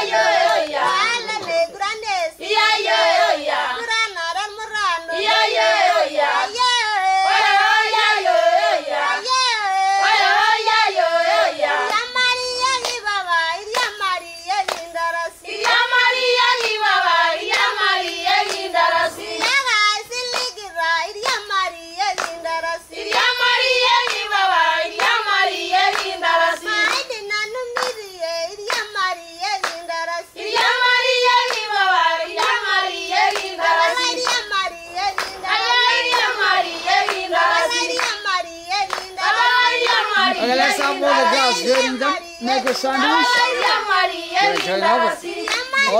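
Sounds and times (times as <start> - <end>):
hand claps: 0.0 - 1.8, 10.0 - 45.9
women singing in high voices: 0.0 - 45.9.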